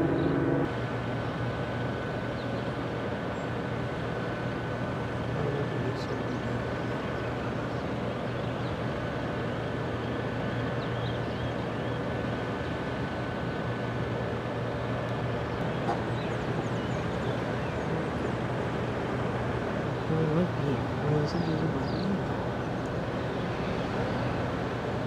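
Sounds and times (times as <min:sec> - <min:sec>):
ship engines droning: 0:00.0 - 0:25.0.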